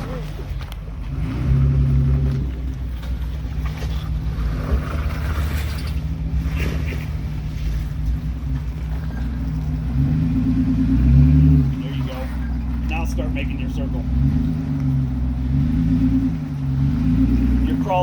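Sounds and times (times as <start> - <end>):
off-road vehicle engine running: 0.0 - 18.0.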